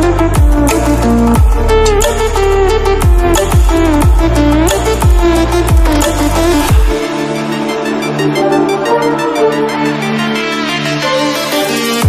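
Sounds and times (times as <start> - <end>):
electronic pop music: 0.0 - 12.0.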